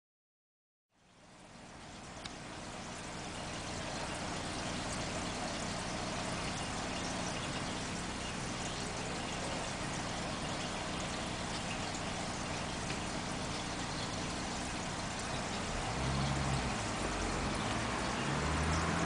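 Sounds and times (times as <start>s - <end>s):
trickling water: 0.9s - 19.0s.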